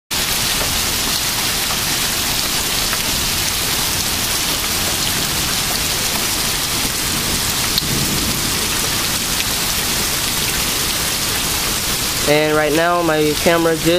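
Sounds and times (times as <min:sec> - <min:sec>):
heavy rain pouring: 0:00.1 - 0:13.9.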